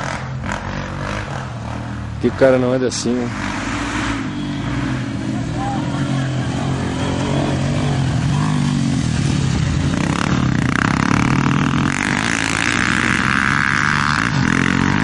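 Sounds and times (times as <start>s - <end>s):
higher rougher engine sound: 0.0s - 15.0s
motorcycle engine running: 0.0s - 15.0s.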